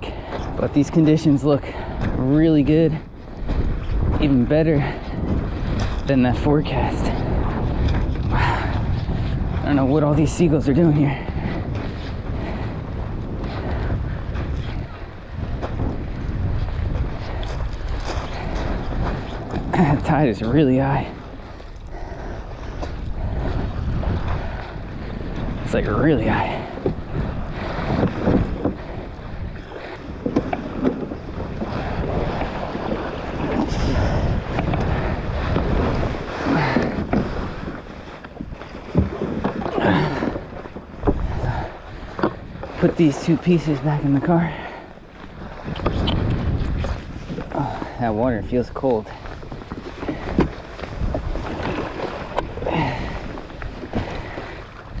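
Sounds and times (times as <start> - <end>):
small waves lapping: 0.0 - 55.0
wind buffeting microphone: 0.0 - 55.0.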